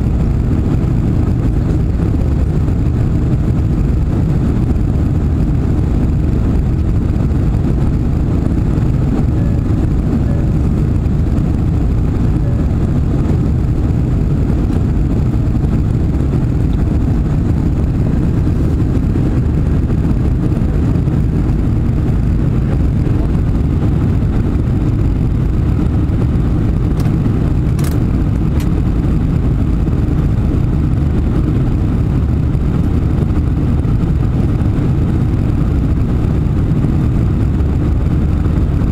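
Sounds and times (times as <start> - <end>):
jet engine and airflow noise: 0.0 - 38.9.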